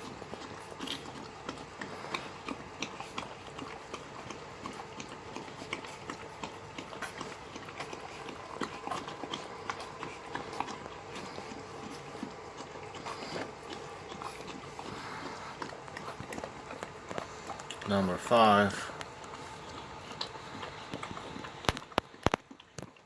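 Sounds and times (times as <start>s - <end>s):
puppies eating messily: 0.0s - 23.0s.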